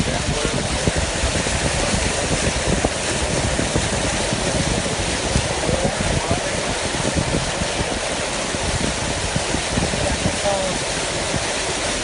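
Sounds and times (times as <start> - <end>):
floodwater rushing: 0.0 - 12.0
wind buffeting microphone: 0.0 - 12.0.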